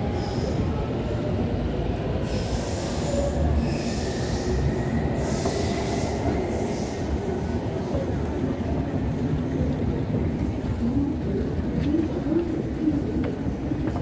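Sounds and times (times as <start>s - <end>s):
metro train rumble: 0.0s - 14.0s.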